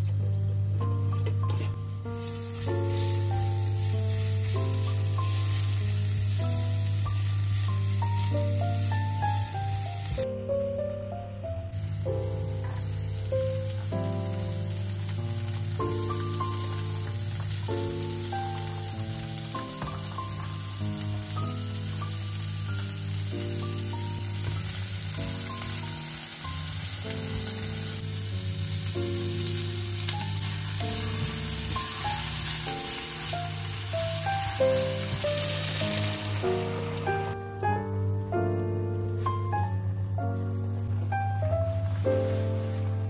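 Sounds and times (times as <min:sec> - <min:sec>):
vegetables sizzling in oil: 0:00.0 - 0:10.2, 0:11.8 - 0:37.5, 0:39.2 - 0:43.0
background music: 0:00.0 - 0:43.0.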